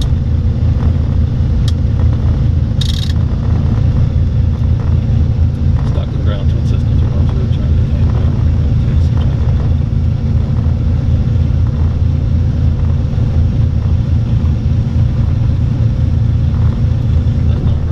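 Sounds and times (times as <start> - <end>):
aircraft engines droning: 0.0 - 17.9.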